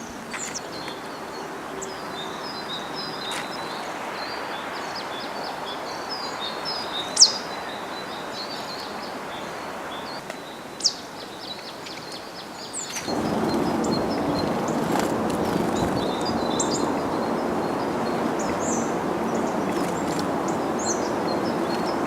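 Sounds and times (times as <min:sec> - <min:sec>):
steady background noise: 0:00.0 - 0:22.0
tits chirping: 0:00.0 - 0:22.0.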